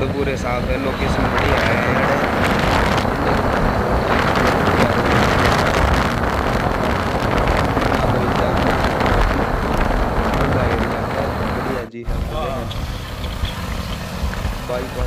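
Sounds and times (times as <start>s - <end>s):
motorcycle engine: 0.0s - 15.0s
wind buffeting microphone: 0.0s - 15.0s.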